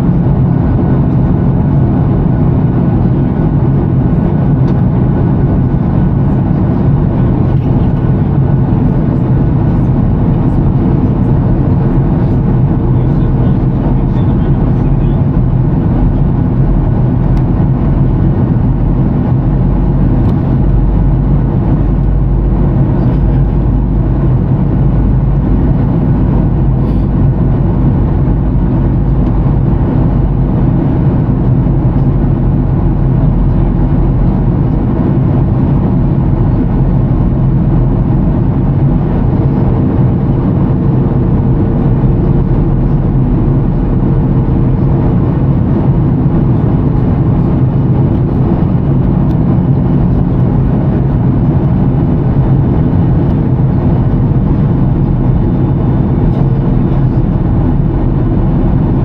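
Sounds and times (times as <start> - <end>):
jet engine drone in cabin: 0.0 - 59.0.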